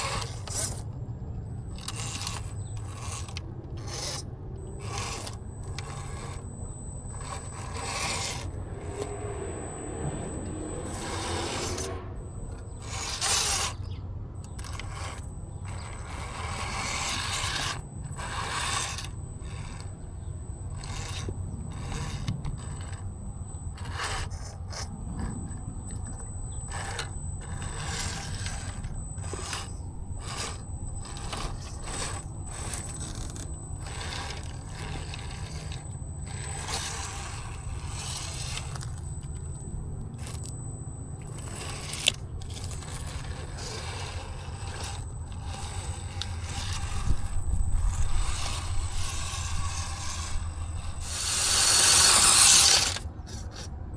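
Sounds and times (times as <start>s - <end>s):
tyres scraping and crunching rocks: 0.0s - 53.8s
high whine: 0.0s - 53.9s
low motor hum: 0.0s - 53.9s.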